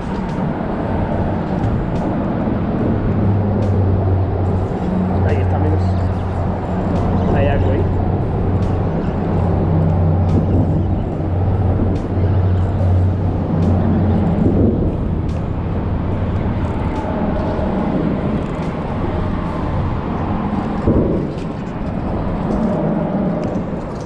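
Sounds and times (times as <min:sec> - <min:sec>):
traffic rumbling overhead: 0:00.0 - 0:24.0.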